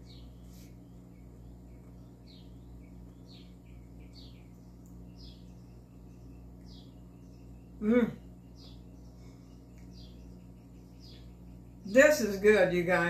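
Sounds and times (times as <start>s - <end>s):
bird chirping: 0.0s - 13.0s
low hum: 0.0s - 13.0s.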